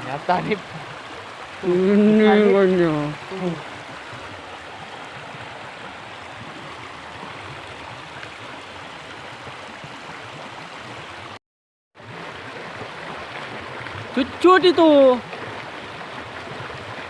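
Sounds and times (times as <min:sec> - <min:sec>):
river water flowing: 0:00.0 - 0:11.4, 0:12.0 - 0:17.0.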